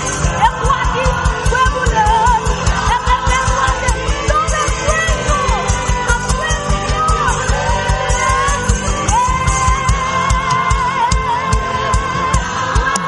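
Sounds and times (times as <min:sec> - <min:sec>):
band playing worship song: 0:00.0 - 0:13.0
fast drum beat: 0:00.0 - 0:13.0
people singing: 0:00.0 - 0:13.0.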